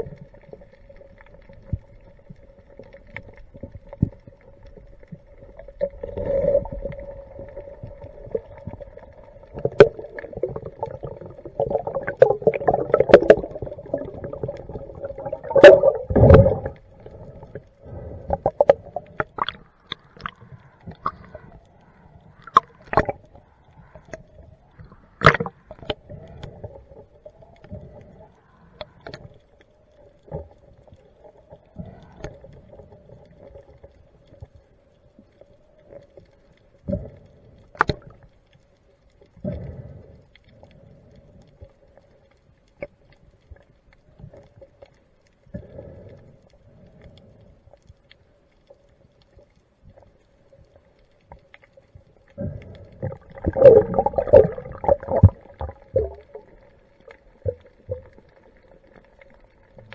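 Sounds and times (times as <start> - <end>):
water sloshing and bubbling: 0.0 - 59.9.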